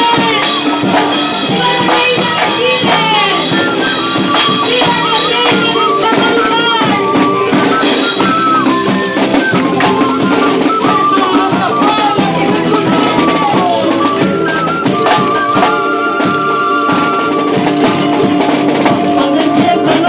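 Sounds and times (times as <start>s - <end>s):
gliding melody line: 0.0s - 20.0s
tambourine and rattle percussion: 0.0s - 20.0s.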